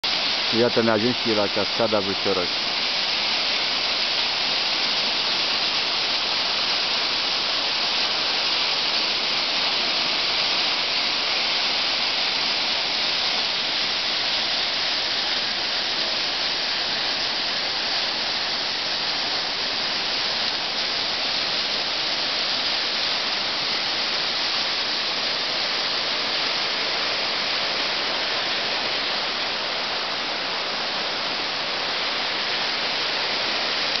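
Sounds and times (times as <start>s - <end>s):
waterfall pouring: 0.0s - 34.0s.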